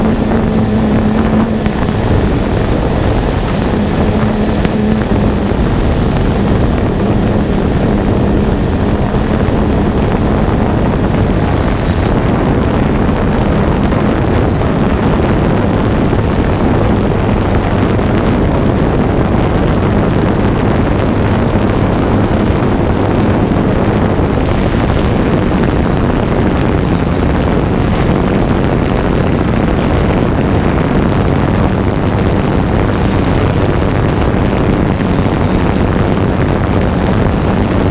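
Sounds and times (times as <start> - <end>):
drone propeller and motor noise: 0.0 - 37.9
wind on microphone: 0.0 - 37.9.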